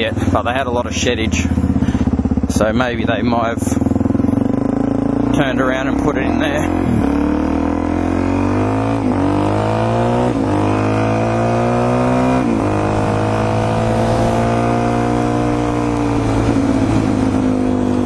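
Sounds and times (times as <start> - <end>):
dirt bike engine accelerating: 0.0 - 18.0.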